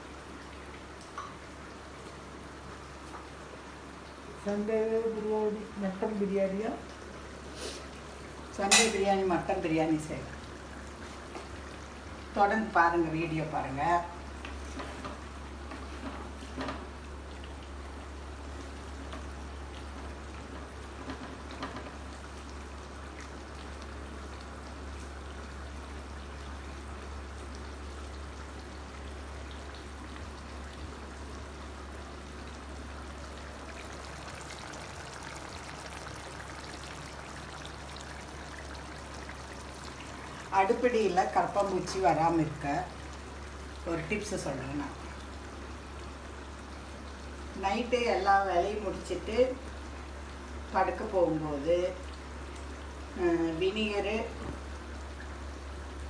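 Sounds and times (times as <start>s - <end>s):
gravy sizzling and bubbling: 0.0s - 56.0s.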